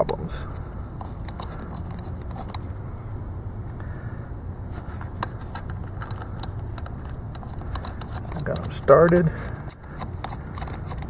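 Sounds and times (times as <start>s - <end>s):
light metal clicks and scrapes: 0.0s - 2.7s, 4.7s - 11.0s
steady low hum: 0.0s - 11.0s.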